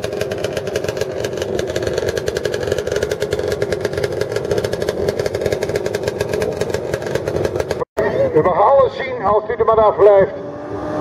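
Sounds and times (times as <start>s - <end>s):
motorcycle engines idling: 0.0s - 9.6s.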